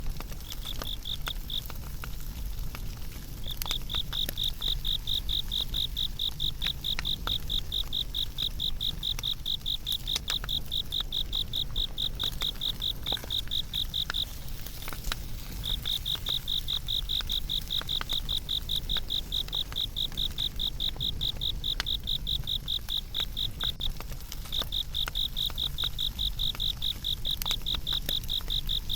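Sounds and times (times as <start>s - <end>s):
cricket chirping: 0.0s - 2.0s, 3.4s - 28.9s
fire crackling: 0.0s - 28.9s
low rumble of fire: 0.0s - 28.9s.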